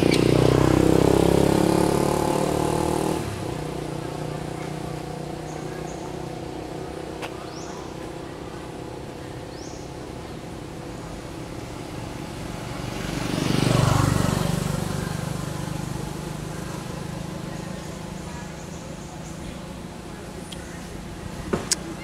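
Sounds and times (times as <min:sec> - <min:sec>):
motor vehicle passing: 0:00.0 - 0:22.0.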